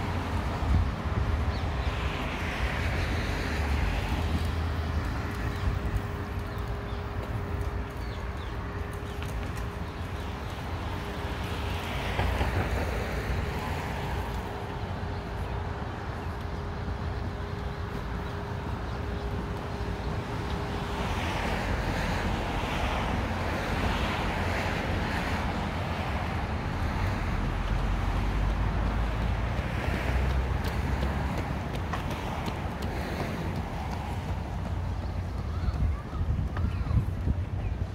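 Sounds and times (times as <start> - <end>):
street traffic passing: 0.0 - 37.9
vehicles swishing past: 0.0 - 37.9
wind buffeting microphone: 0.0 - 37.9.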